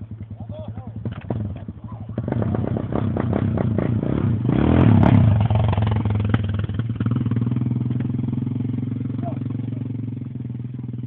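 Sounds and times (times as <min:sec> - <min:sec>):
engine revving then idling: 0:00.0 - 0:11.0.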